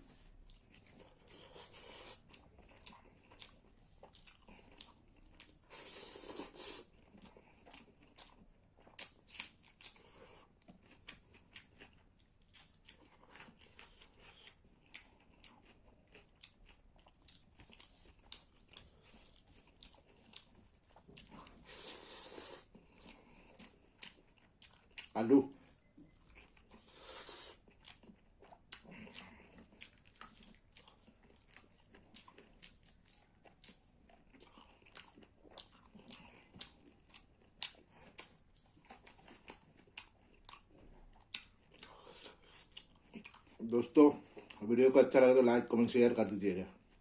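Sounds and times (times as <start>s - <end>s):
person chewing food: 0.0s - 45.0s.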